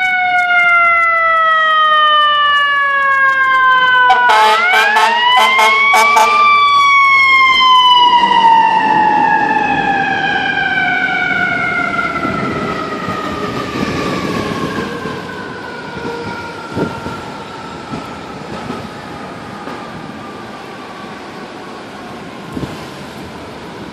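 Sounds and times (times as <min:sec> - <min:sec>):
mechanical siren winding down: 0:00.0 - 0:21.0
truck rumbling on road: 0:00.0 - 0:23.9.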